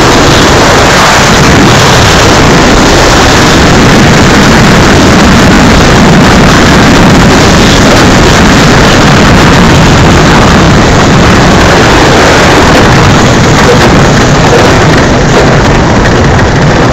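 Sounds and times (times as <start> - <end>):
sled runners rumbling on ice: 0.0 - 16.9
wind buffeting microphone: 0.0 - 16.9.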